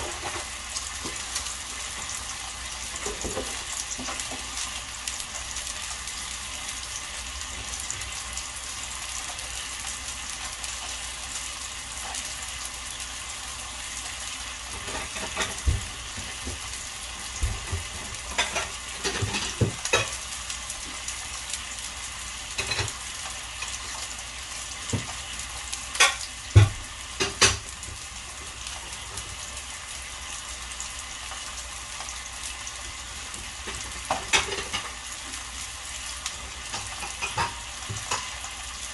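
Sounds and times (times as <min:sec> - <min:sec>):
meat sizzling on a grill pan: 0:00.0 - 0:38.9.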